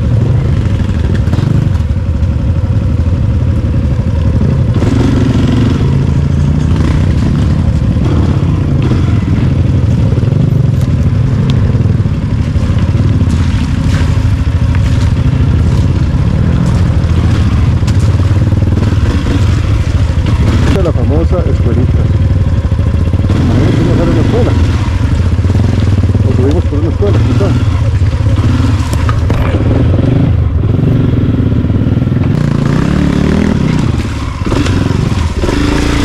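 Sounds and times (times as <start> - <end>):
dirt bike engine running: 0.0 - 36.0.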